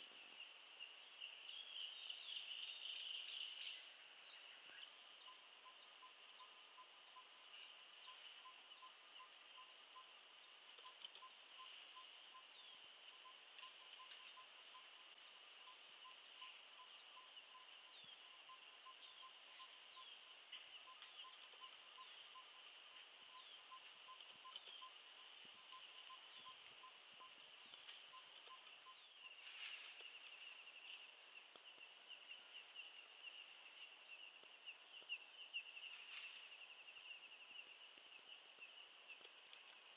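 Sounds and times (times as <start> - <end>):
insect chorus buzzing: 0.0 - 39.9
pulsing insect calls: 0.0 - 39.9.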